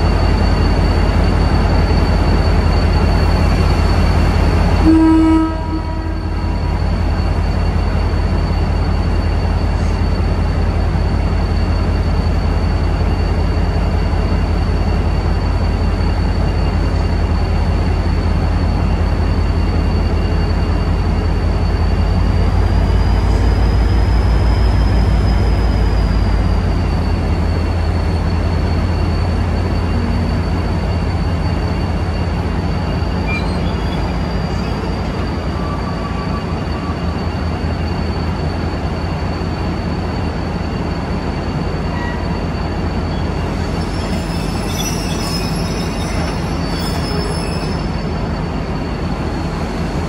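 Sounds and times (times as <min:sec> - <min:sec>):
locomotive engine drone: 0:00.0 - 0:50.0
train wheel squeal: 0:00.0 - 0:50.0
sharp wheel squeaks: 0:06.2 - 0:49.9.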